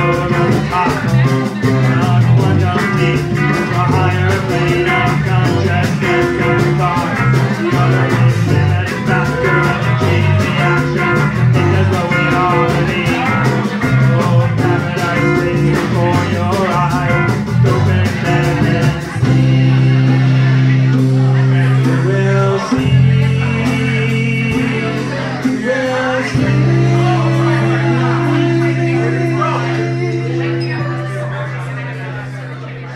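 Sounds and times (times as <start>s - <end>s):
drum kit: 0.0s - 30.8s
acoustic guitar: 0.0s - 32.9s.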